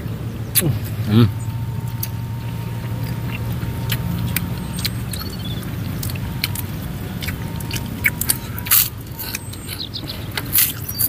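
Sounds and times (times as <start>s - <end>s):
steady low hum: 0.0s - 11.0s
food crunching while chewing: 1.7s - 11.0s.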